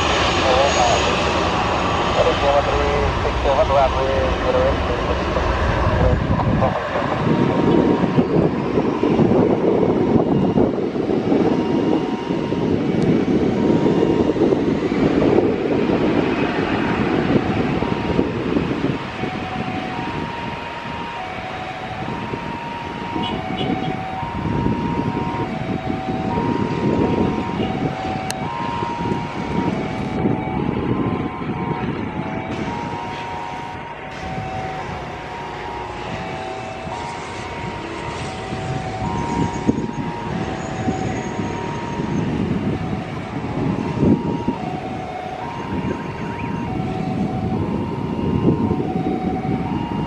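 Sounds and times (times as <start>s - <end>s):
jet airliner taking off: 0.0s - 50.0s
road traffic passing: 0.0s - 50.0s.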